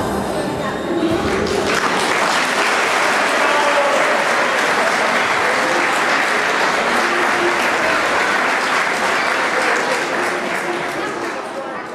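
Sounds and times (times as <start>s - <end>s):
faint voices: 0.0s - 11.9s
audience applauding: 1.2s - 11.8s.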